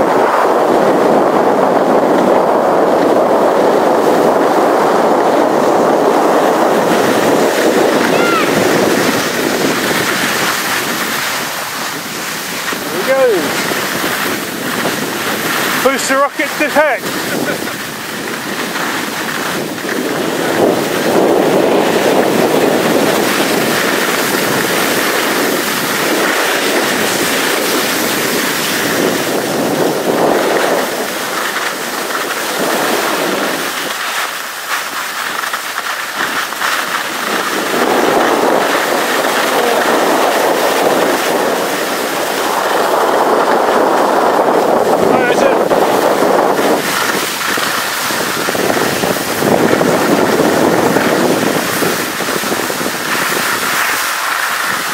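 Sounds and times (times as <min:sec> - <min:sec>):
skis sliding over snow: 0:00.0 - 0:54.9
wind buffeting microphone: 0:00.0 - 0:54.9.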